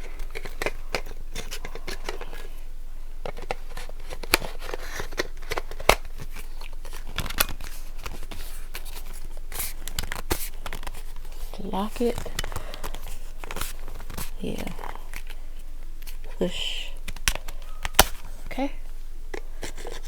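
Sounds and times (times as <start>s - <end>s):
plastic clicking and rubbing: 0.0s - 2.6s, 3.2s - 16.3s, 17.0s - 18.5s.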